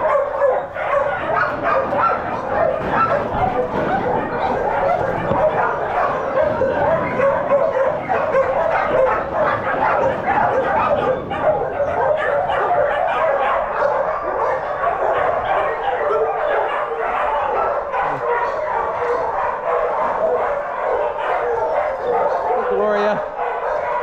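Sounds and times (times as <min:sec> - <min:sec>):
dogs barking and whining: 0:00.0 - 0:24.0.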